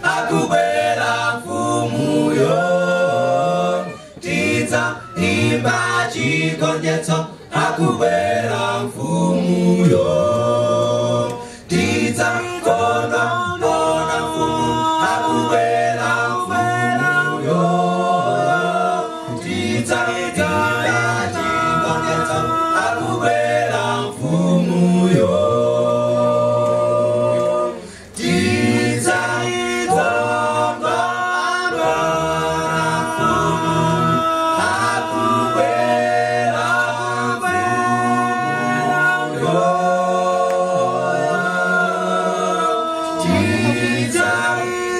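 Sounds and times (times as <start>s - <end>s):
male group singing in harmony: 0.0s - 44.9s.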